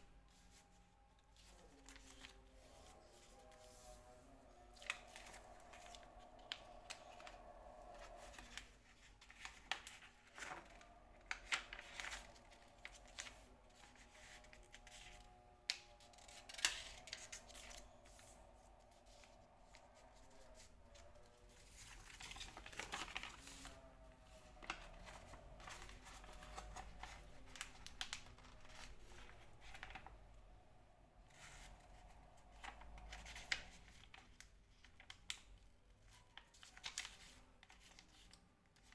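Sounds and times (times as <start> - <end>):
faint background music: 0.0 - 38.9
paper rustling and crinkling: 0.3 - 30.2, 31.3 - 38.9.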